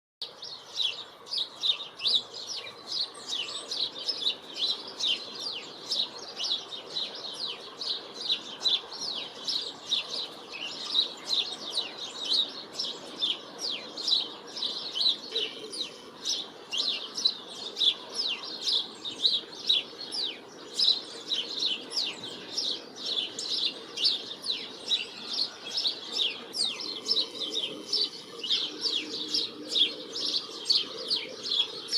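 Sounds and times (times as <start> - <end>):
small birds chirping: 0.2 - 31.9.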